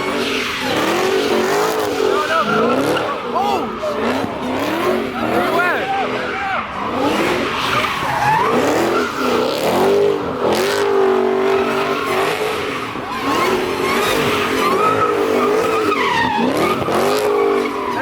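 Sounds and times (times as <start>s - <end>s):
car engine revving high: 0.0s - 18.0s
tires squealing: 0.0s - 18.0s.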